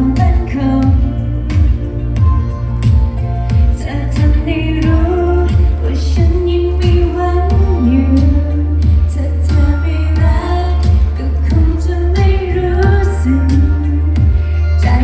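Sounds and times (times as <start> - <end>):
bass: 0.0 - 15.0
woman singing: 0.0 - 15.0.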